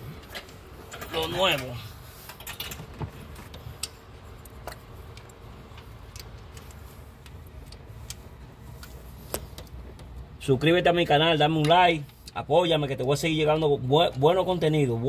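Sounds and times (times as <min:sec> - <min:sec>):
light clicks of metal parts: 0:00.1 - 0:14.9.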